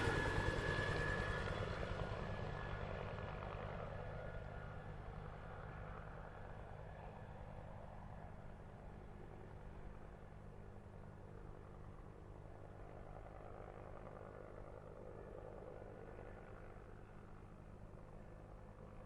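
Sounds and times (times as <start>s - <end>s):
helicopter drone: 0.0s - 19.0s.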